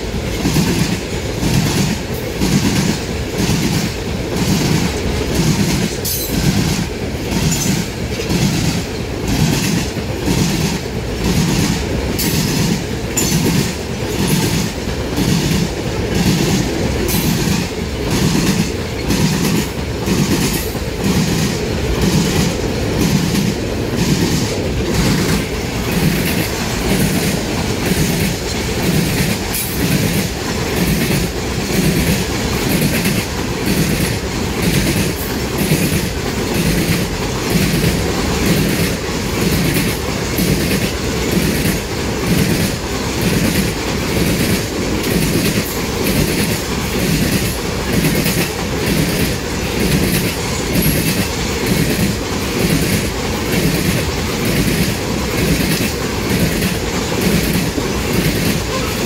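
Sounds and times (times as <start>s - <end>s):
train wheels clicking over rail joints: 0.0s - 59.0s.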